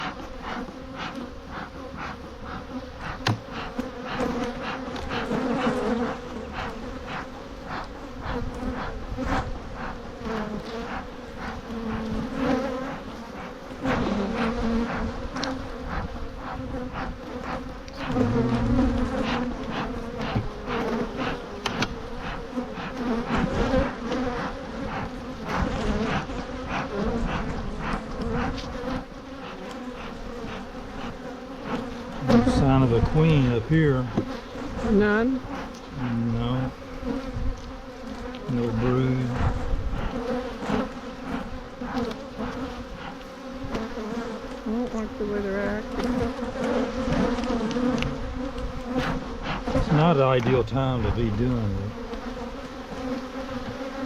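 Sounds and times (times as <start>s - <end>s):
bee smoker puffs and clicks: 0.0s - 54.0s
bees buzzing: 0.0s - 54.0s.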